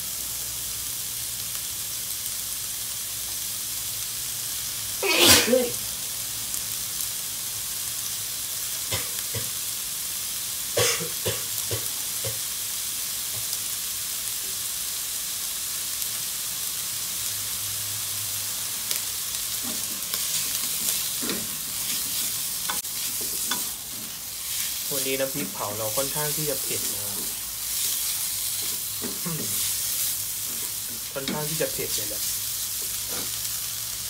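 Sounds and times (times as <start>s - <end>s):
meat sizzling in oil: 0.0s - 34.0s.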